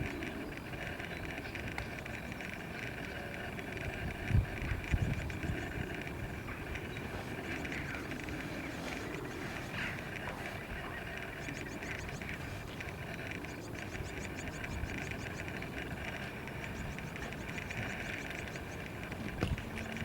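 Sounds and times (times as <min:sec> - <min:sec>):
rapid high-pitched ticking: 0:00.0 - 0:20.0.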